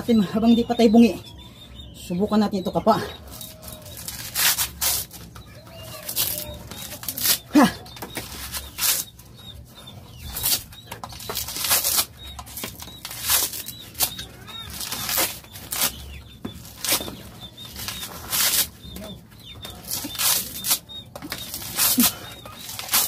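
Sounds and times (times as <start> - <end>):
coconut husk tearing: 3.2 - 9.2, 10.1 - 23.0.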